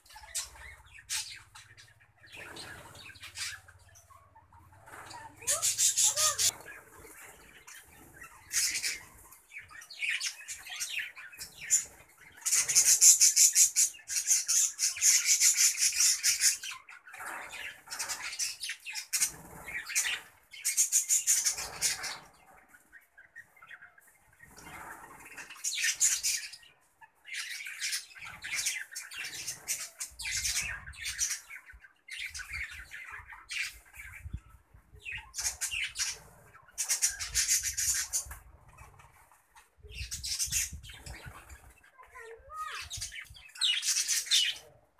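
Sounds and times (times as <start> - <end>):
budgerigars chattering and squawking: 0.0 - 44.9.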